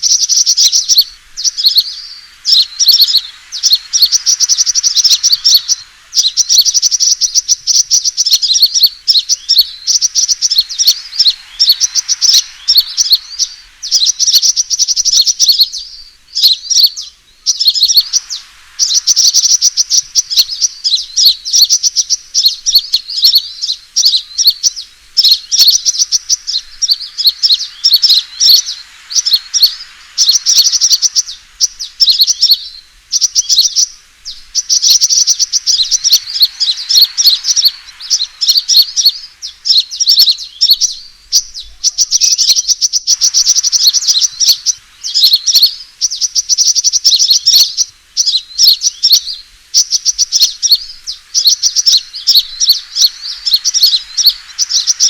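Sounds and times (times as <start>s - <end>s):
sunbirds chirping trills: 0.0s - 55.0s.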